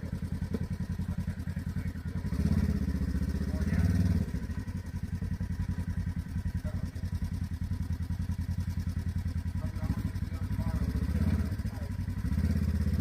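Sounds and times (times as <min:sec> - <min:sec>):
off-road vehicle engine idling: 0:00.0 - 0:13.0.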